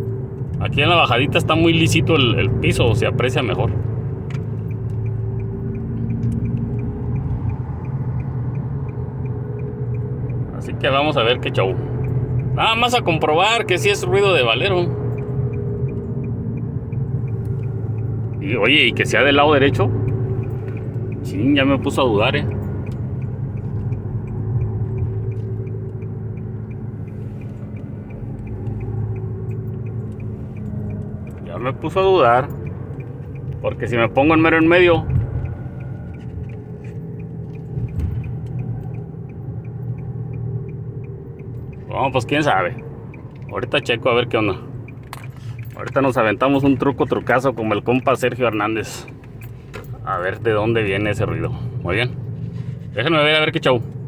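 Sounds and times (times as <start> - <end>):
faint light ticking: 0.0 - 54.0
road noise: 0.0 - 54.0
wheel bearing droning: 0.0 - 54.0.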